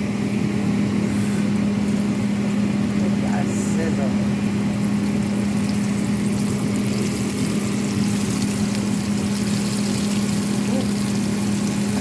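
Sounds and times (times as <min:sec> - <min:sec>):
constant low hum: 0:00.0 - 0:12.0
chicken sizzling in hot oil: 0:01.1 - 0:12.0.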